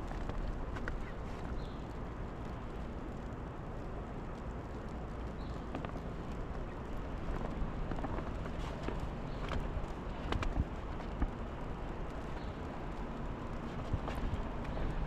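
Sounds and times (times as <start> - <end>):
city street hiss and rumble: 0.0 - 15.0.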